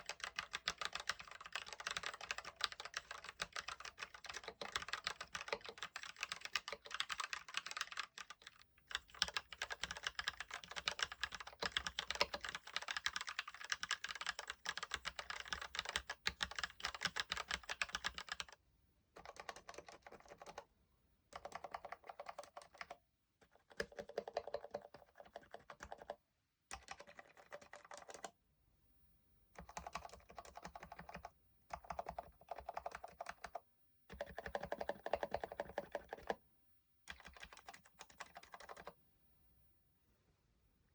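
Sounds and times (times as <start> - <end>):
mechanical keyboard typing: 0.0 - 18.6, 19.2 - 20.7, 21.4 - 28.3, 29.6 - 36.4, 37.1 - 39.0.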